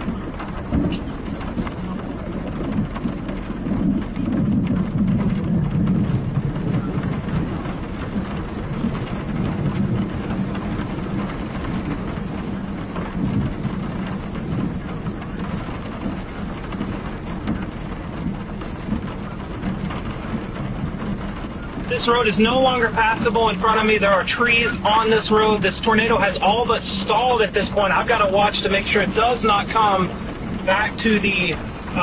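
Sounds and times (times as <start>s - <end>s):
rain: 0.0s - 32.0s
vehicle running: 0.0s - 32.0s
wind rumbling: 0.0s - 32.0s.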